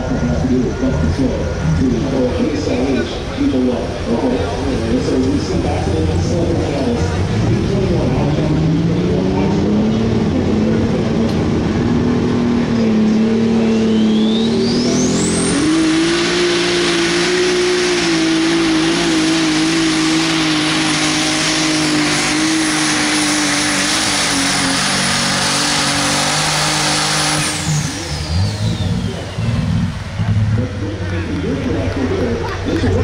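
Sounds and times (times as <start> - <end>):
diesel engine at full throttle: 0.0 - 33.0
turbo whine: 0.0 - 33.0.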